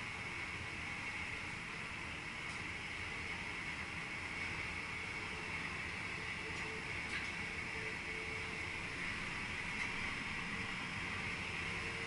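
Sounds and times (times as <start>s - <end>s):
train cab low rumble: 0.0s - 12.0s.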